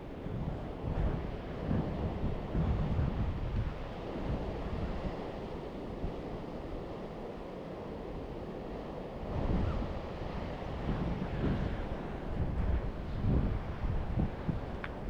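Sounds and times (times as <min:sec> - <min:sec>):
wind buffeting microphone: 0:00.0 - 0:06.9, 0:08.2 - 0:15.0
sea surf: 0:00.0 - 0:15.0.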